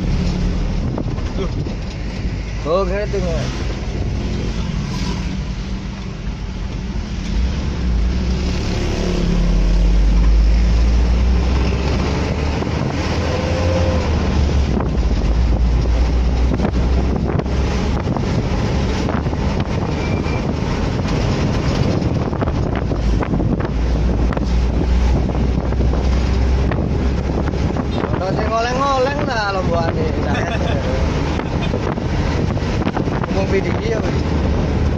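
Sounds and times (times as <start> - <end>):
wind buffeting microphone: 0.0 - 2.6, 9.1 - 34.9
vehicle engine and road rumble: 0.0 - 34.9.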